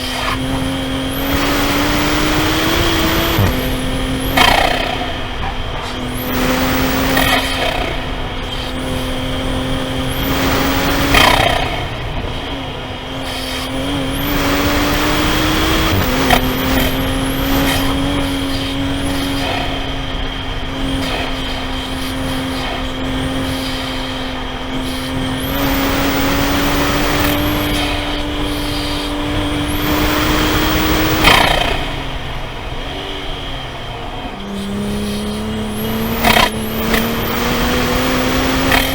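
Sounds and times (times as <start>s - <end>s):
car engine revving from cabin: 0.0s - 38.9s.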